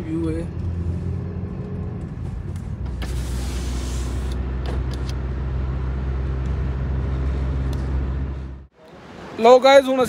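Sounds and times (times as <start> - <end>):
road and wind rumble: 0.0 - 10.0.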